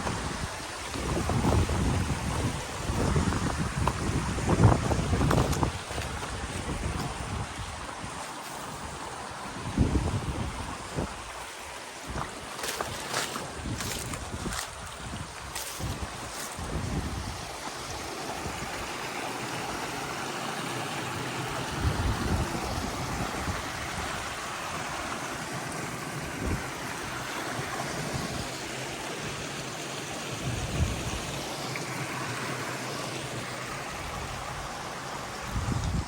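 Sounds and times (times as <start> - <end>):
stream water babbling: 0.0 - 36.0.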